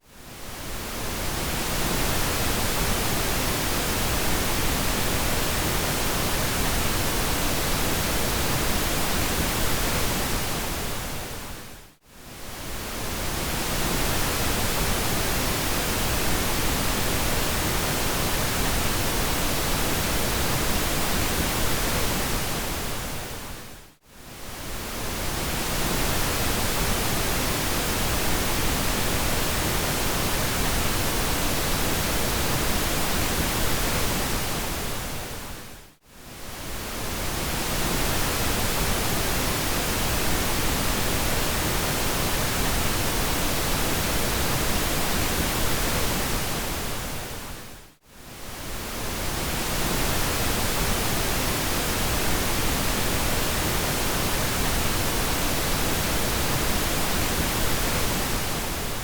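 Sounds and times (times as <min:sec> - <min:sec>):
pink noise hiss: 0:00.2 - 0:59.0.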